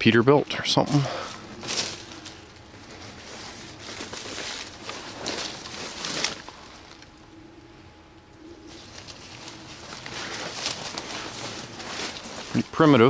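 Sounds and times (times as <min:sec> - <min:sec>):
footsteps crunching through brush: 0:00.9 - 0:07.2, 0:08.6 - 0:13.0.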